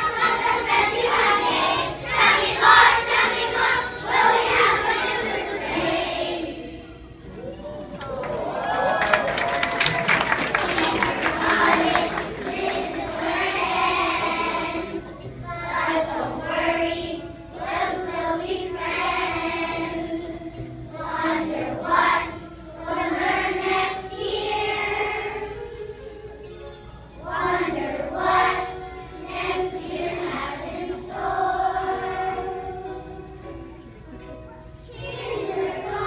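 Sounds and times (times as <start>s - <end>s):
children's choir singing: 0.0s - 7.9s, 9.8s - 36.0s.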